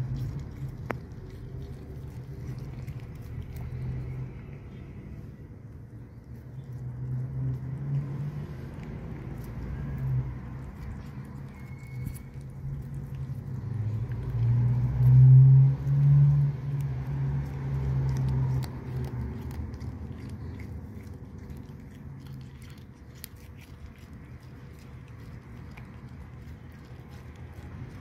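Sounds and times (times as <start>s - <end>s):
cat licking wet clicks: 0.0s - 5.1s, 5.8s - 28.0s.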